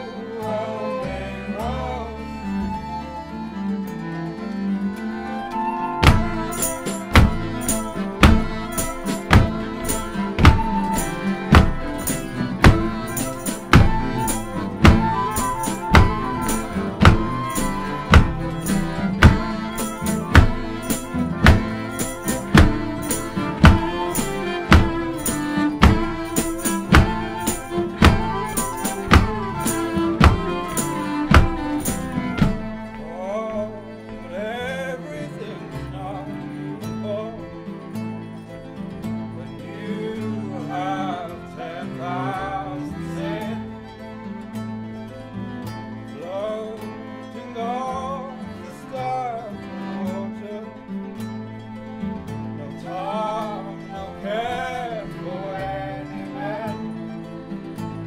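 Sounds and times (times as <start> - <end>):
acoustic folk band playing: 0.0 - 58.0.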